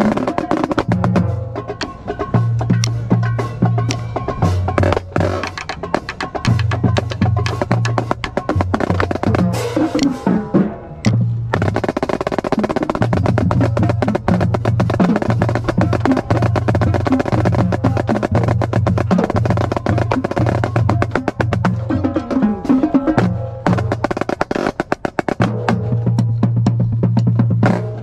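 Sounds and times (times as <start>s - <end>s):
marching snare drum rolls: 0.0s - 28.0s.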